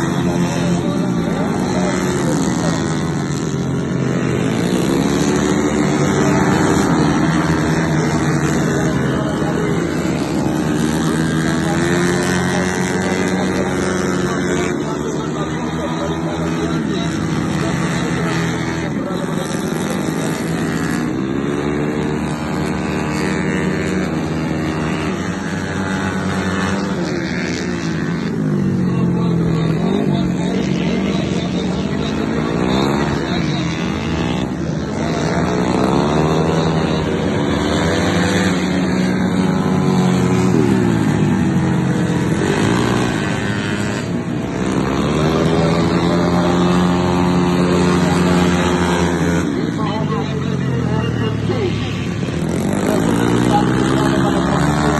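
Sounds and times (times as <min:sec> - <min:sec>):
scooter engine running hard: 0:00.0 - 0:54.9.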